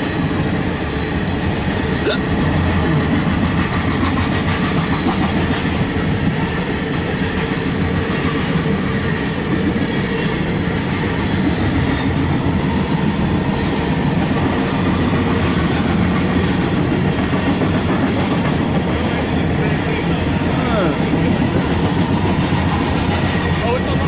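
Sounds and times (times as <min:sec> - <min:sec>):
steel wheels on rails: 0:00.0 - 0:24.0.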